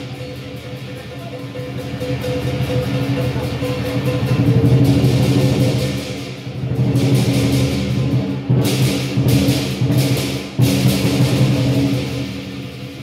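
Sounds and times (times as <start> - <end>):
cymbals crashing: 0.0 - 13.0
drum beaten fast: 0.0 - 13.0.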